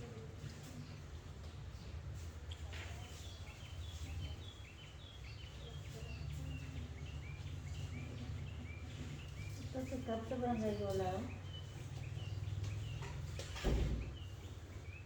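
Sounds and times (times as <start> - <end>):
bird chirping: 2.5 - 15.0.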